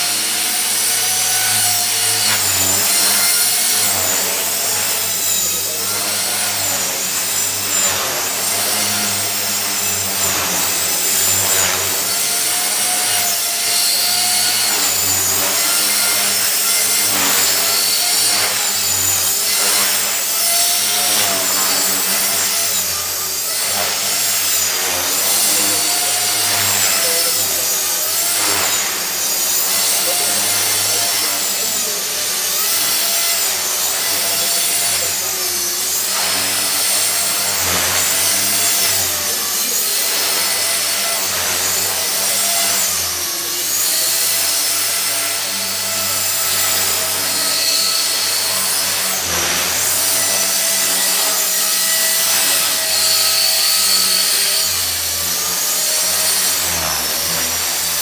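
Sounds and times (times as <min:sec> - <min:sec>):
rc helicopter motor whine: 0:00.0 - 0:58.0.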